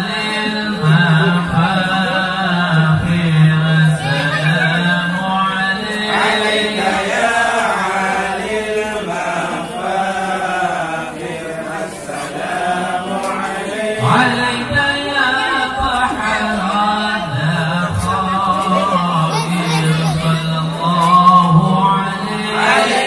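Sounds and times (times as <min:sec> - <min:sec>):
men chanting devotional song: 0:00.0 - 0:23.0.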